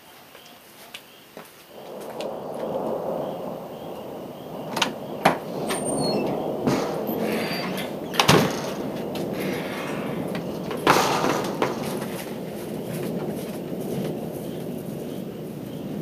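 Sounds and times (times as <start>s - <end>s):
sharp cracks: 1.7s - 15.0s
thunder rumbling: 1.7s - 16.0s.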